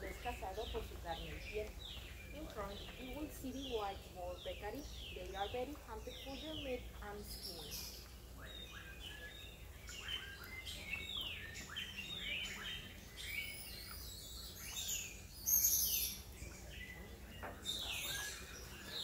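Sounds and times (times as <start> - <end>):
birds whistling and singing: 0.0 - 19.0.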